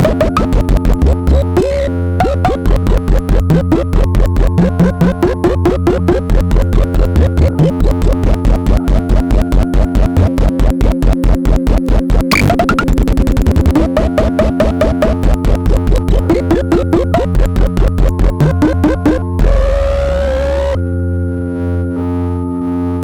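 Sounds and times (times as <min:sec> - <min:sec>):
stuttering noise burst: 0:00.0 - 0:19.2
pulsing synthesizer tones: 0:00.0 - 0:22.2
low bass pulse: 0:00.0 - 0:22.4.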